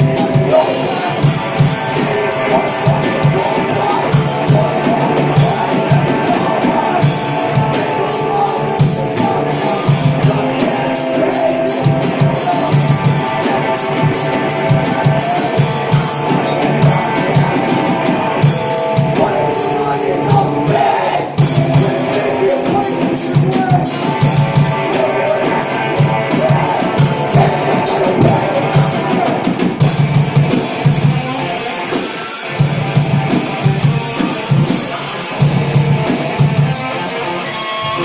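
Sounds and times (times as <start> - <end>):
drum kit beating: 0.0 - 38.0
electric guitars: 0.0 - 38.0
rock band playing: 0.0 - 38.0.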